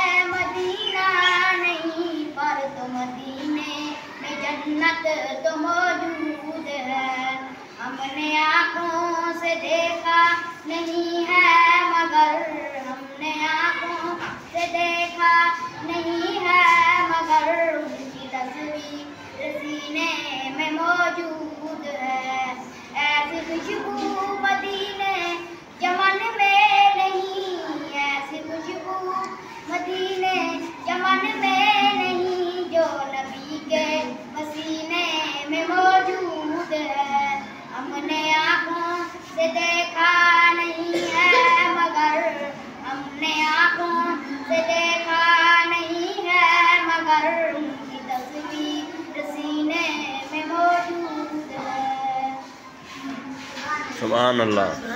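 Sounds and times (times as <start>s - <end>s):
boy singing devotional song: 0.0s - 54.9s.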